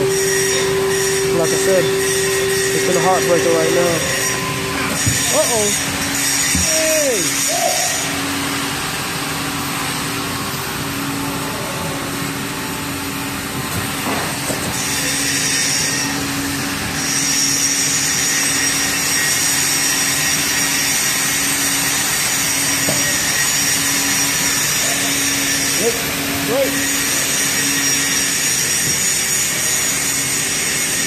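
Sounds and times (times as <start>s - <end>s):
high machine whine: 0.0s - 31.0s
hydraulic machinery hum: 0.0s - 31.0s.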